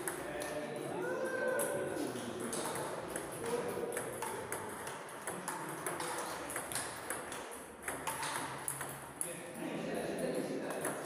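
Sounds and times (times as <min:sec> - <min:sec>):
table tennis balls bouncing: 0:00.0 - 0:00.9, 0:01.5 - 0:11.0.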